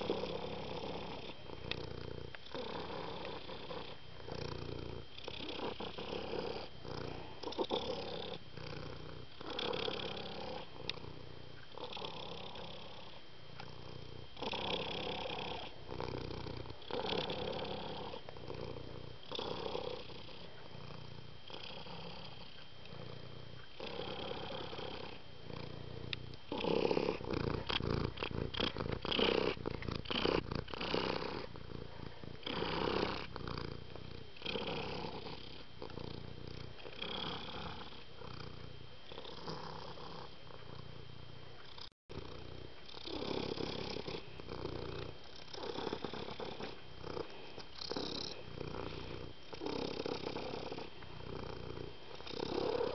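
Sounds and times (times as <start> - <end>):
cat purring: 0.0 - 52.9.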